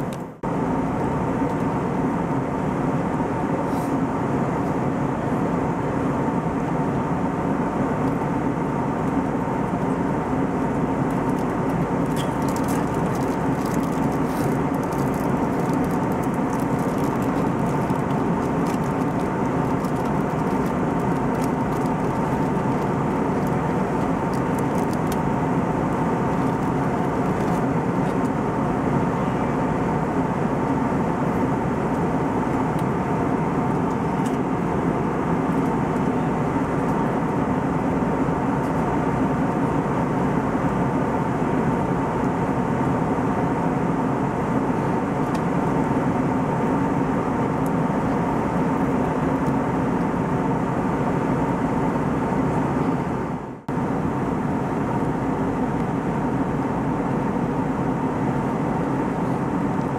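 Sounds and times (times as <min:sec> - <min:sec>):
cabin airflow rush: 0:00.0 - 0:59.9
jet engines humming: 0:00.0 - 0:59.9.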